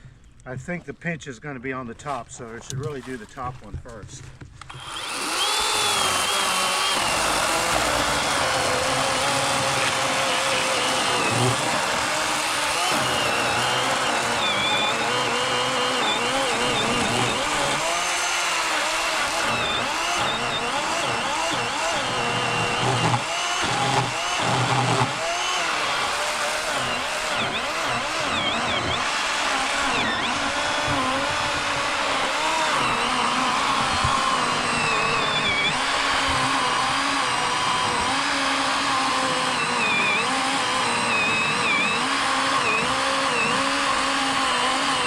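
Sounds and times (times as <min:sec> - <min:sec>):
electric chainsaw cutting log: 0:04.2 - 0:45.0.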